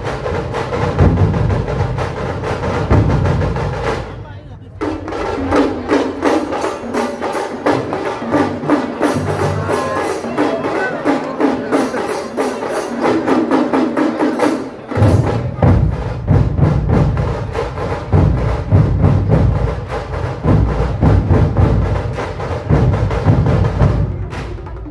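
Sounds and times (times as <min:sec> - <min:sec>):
deep heavy drum beats: 0:00.0 - 0:24.9.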